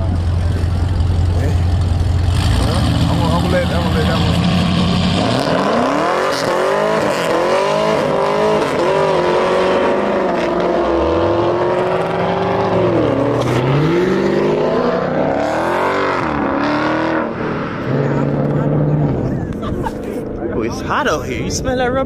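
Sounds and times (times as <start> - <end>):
car engines at full throttle: 0.0 - 22.0
lower engine note rising: 0.0 - 22.0.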